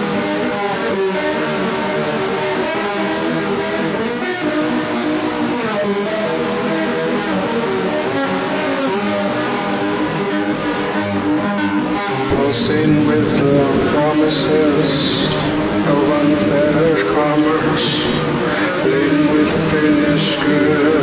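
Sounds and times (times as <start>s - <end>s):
electric guitar with backing track: 0.0s - 21.0s.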